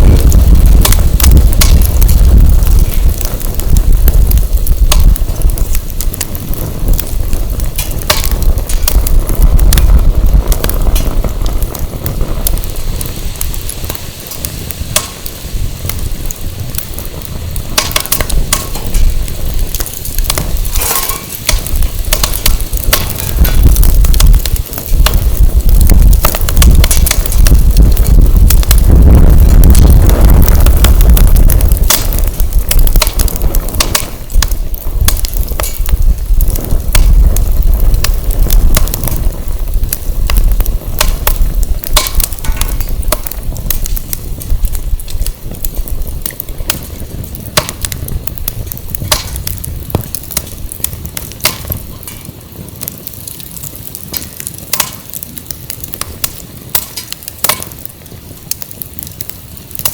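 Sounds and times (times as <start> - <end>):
firewood crackling and popping: 0.0 - 59.9
wind buffeting microphone: 0.0 - 59.9.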